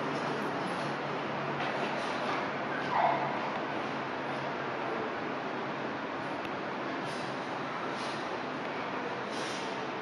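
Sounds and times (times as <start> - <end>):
monorail car running hiss: 0.0 - 10.0.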